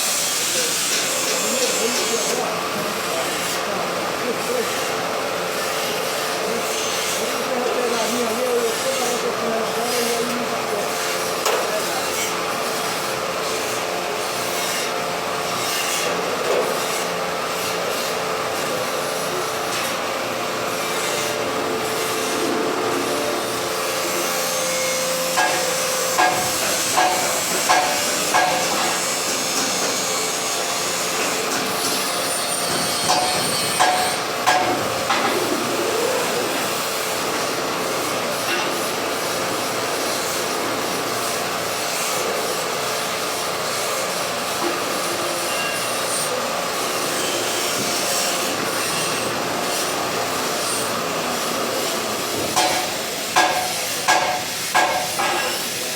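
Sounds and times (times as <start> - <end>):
workshop noise: 0.0 - 55.9.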